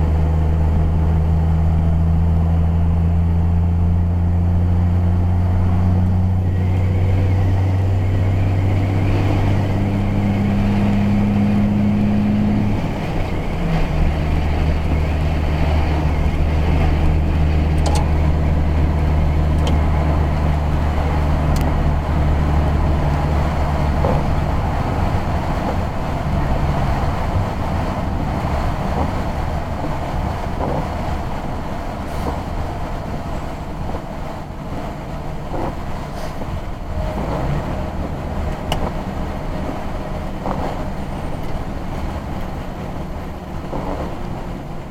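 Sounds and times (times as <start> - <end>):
tyre and road noise: 0.0 - 44.9
vehicle engine humming: 0.0 - 44.9.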